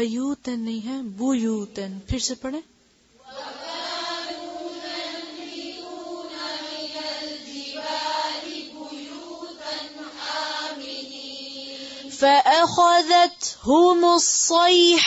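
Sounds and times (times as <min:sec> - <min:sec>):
woman chanting recitation: 0:00.0 - 0:02.6, 0:03.2 - 0:15.0.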